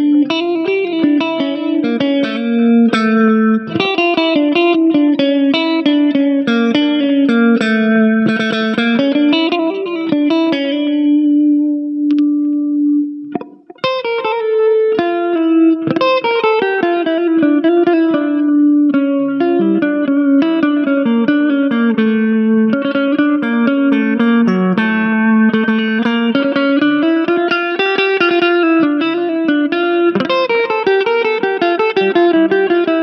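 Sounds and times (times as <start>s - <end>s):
electric guitar melody: 0.0s - 33.0s.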